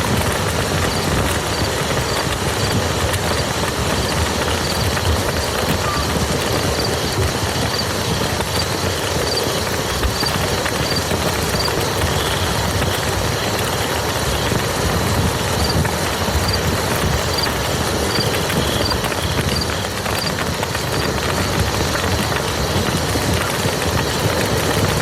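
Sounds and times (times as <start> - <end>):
rain falling on mud: 0.0 - 25.0.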